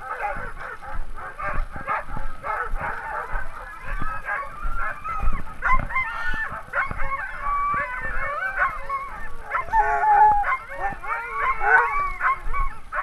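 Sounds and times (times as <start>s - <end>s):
dogs barking and howling: 0.0s - 13.0s.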